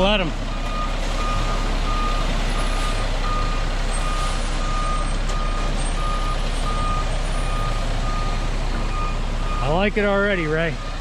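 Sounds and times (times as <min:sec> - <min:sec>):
diesel engine running: 0:00.0 - 0:11.0
backup alarm beeping: 0:00.6 - 0:09.9.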